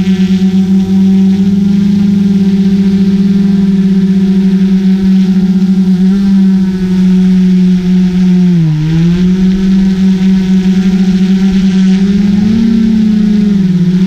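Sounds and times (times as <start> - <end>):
drone propellers humming: 0.0 - 14.0.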